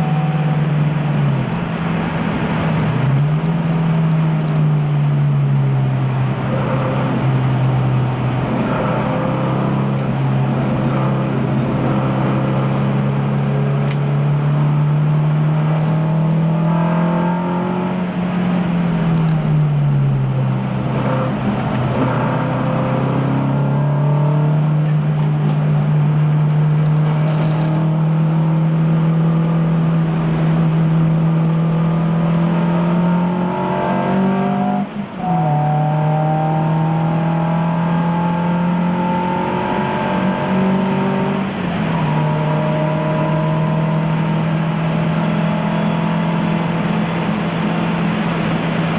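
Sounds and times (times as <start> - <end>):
racing car engine at high revs: 0.0 - 48.9.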